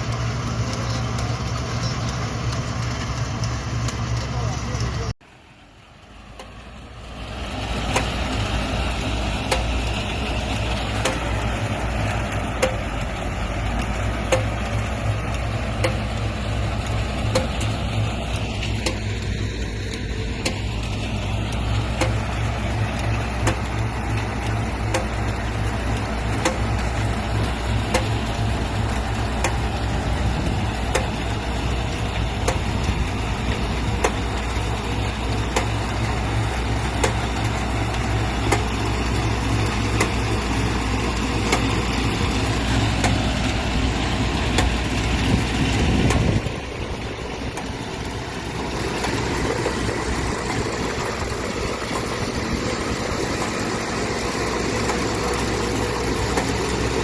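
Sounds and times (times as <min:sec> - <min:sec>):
quiet mechanical sound: 0:00.0 - 0:57.0
tractor engine running: 0:00.0 - 0:57.0.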